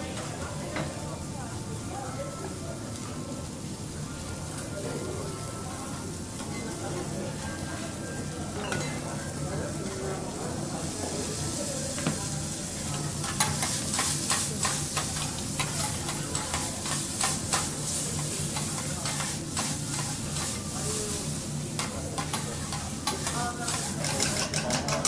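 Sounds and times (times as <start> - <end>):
food sizzling on a griddle: 0.0 - 25.0.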